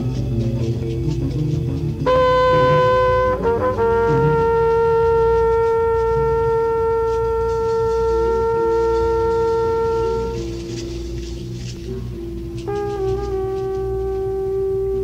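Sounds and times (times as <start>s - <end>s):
jazz band accompaniment: 0.0s - 15.0s
light cymbal: 0.0s - 15.0s
trumpet holding long note: 1.9s - 15.0s.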